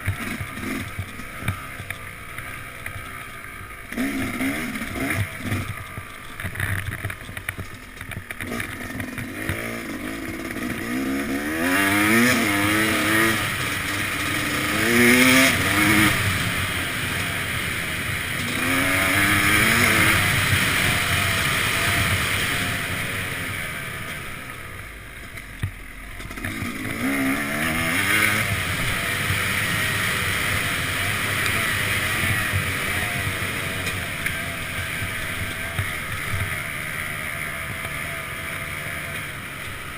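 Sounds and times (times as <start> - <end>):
two-stroke engine revving: 0.0 - 25.2, 26.2 - 39.9.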